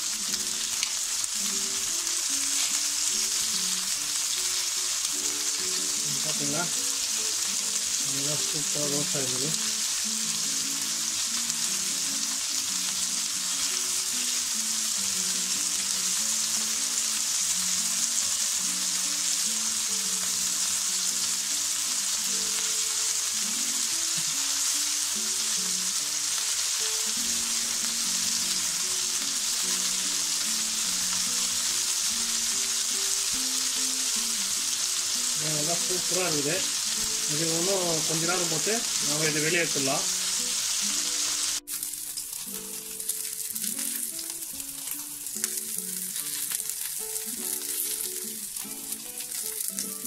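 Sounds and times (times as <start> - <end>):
chicken sizzling in oil: 0.0 - 50.0.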